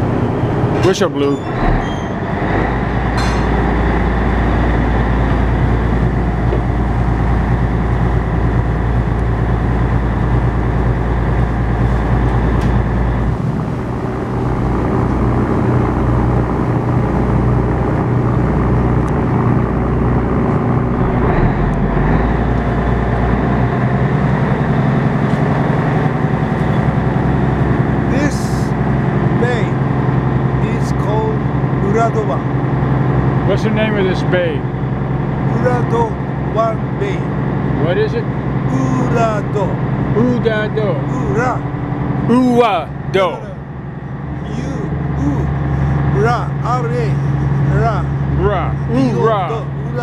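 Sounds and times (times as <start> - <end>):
ferry engines droning: 0.0 - 50.0.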